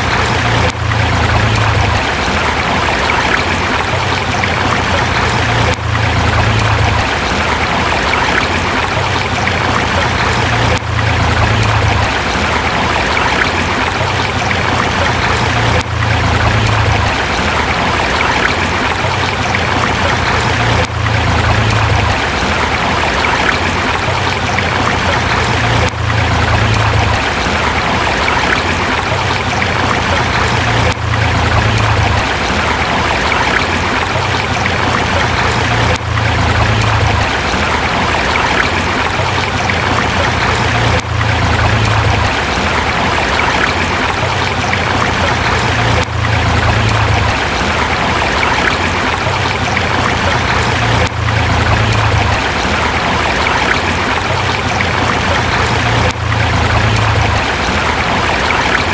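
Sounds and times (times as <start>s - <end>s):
river water rushing over rocks: 0.0s - 58.9s.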